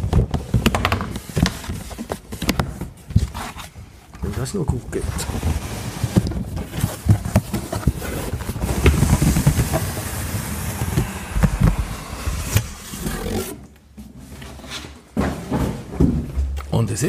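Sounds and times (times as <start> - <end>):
cardboard scraping and rustling: 0.0 - 15.9.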